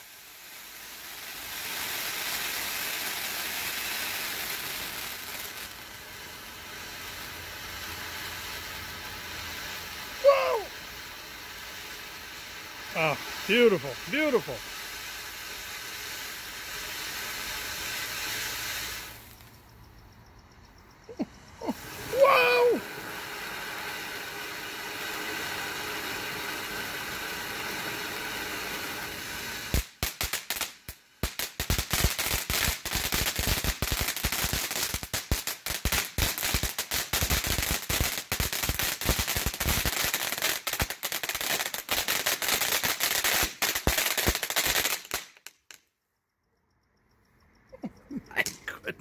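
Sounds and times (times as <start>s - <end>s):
firework crackling: 0.0s - 19.7s, 21.2s - 45.9s, 48.2s - 49.0s
firework fountain hissing: 0.0s - 19.7s, 21.2s - 45.8s, 47.9s - 49.0s.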